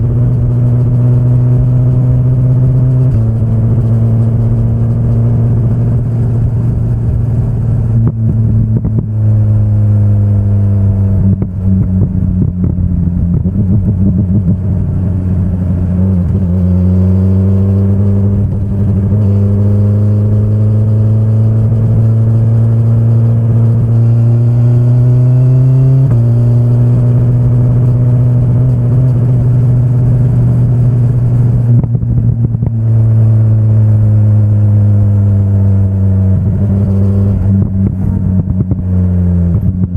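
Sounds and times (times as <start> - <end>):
motorcycle engine under throttle: 0.0 - 39.9.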